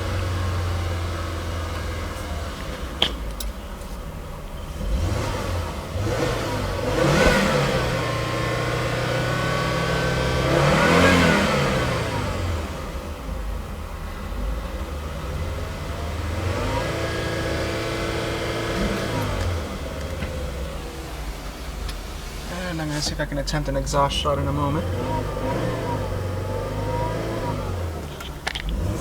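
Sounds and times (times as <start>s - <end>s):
car engine revving from idle: 0.0s - 29.0s.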